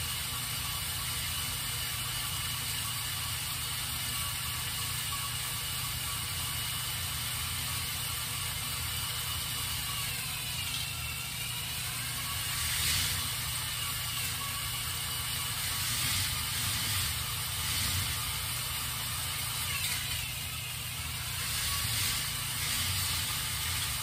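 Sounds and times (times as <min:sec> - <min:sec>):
faint steady whine: 0:00.0 - 0:24.0
motor-driven chain lift running: 0:00.0 - 0:24.0.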